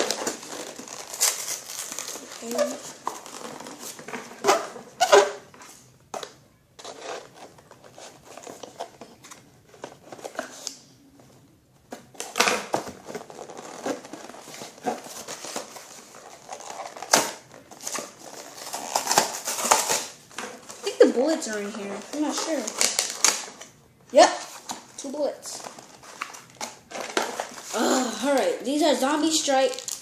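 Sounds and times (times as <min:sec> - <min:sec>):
packaging rustling and crinkling: 0:00.0 - 0:05.0, 0:06.8 - 0:10.7, 0:11.9 - 0:27.8, 0:29.4 - 0:30.0.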